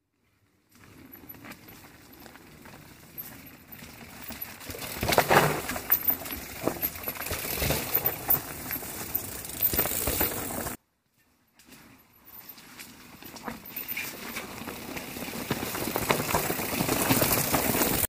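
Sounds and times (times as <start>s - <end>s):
bike tyres crunching on rocks: 0.7s - 10.8s, 11.7s - 18.0s
bike chain and frame rattling: 0.8s - 10.8s, 12.2s - 18.0s.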